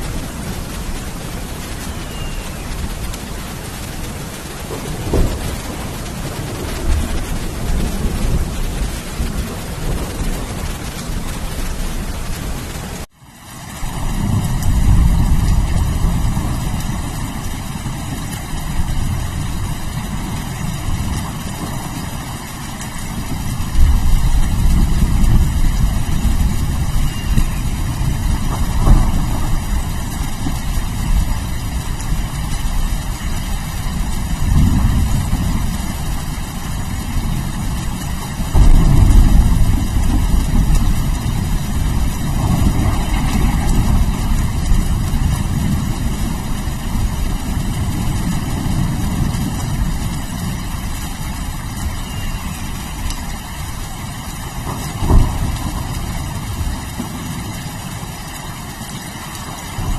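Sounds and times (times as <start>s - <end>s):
rolling thunder rumbles: 0.0s - 13.1s, 13.7s - 59.9s
steady rain: 0.0s - 59.9s.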